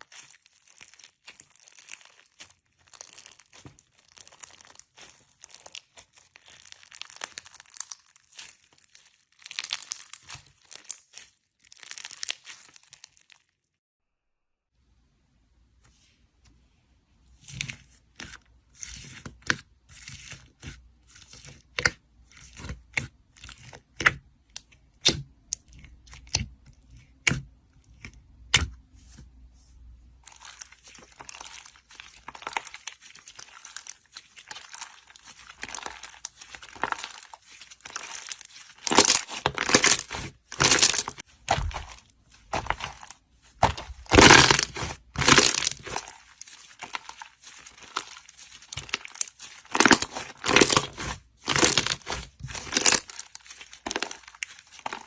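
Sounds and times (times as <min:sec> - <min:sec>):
slime crackling and crinkling: 0:00.0 - 0:13.8, 0:17.2 - 0:55.0.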